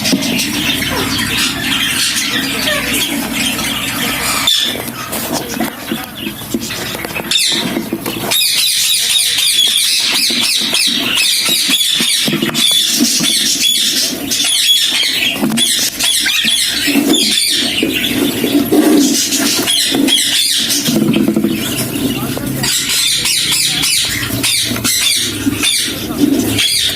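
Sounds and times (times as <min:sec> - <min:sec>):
budgerigars chattering: 0:00.0 - 0:26.9.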